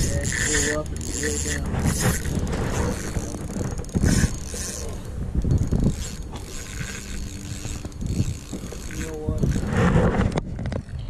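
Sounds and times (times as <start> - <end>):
reel gears squeaking: 0.0 - 9.8
fishing reel cranking: 0.0 - 10.1.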